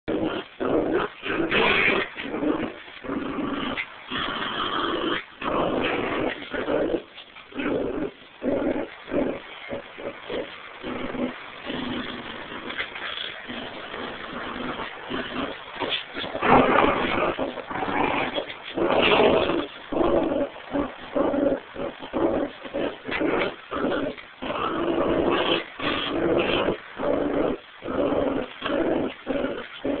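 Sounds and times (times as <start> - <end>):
dogs play-growling: 0.1 - 30.0.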